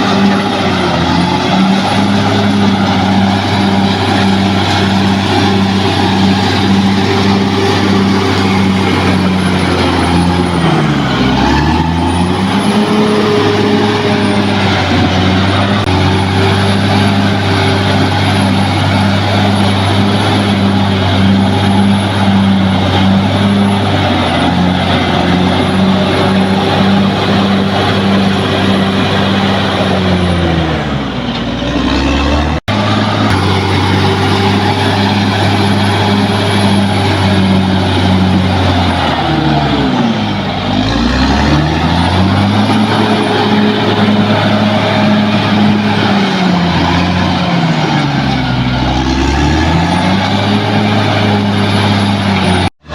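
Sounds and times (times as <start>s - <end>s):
bulldozer diesel engine: 0.0s - 52.9s.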